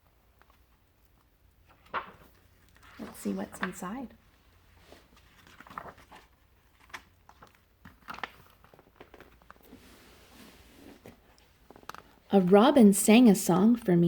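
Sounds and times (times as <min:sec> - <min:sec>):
book pages rustling: 0:00.1 - 0:12.7.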